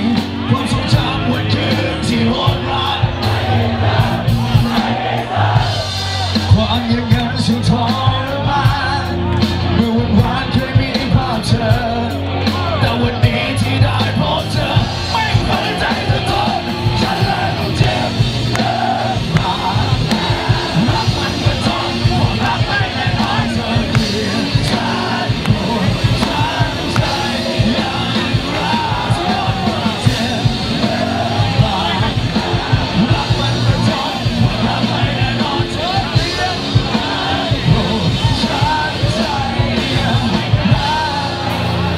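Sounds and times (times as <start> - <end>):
man singing loudly: 0.0 - 4.0, 4.6 - 41.9
drum beat: 0.0 - 12.1, 12.8 - 41.9
live rock band: 0.0 - 41.9.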